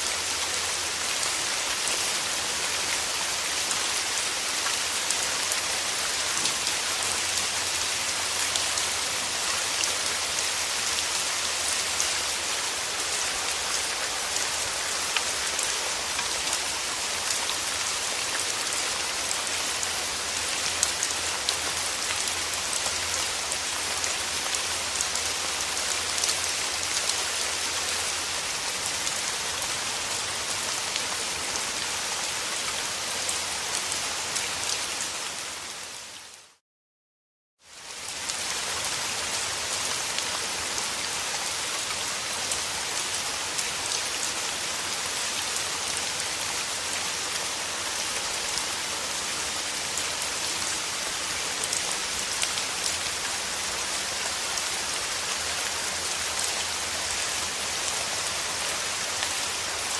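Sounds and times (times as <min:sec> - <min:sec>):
steady rain falling: 0:00.0 - 0:36.6, 0:37.6 - 0:59.9.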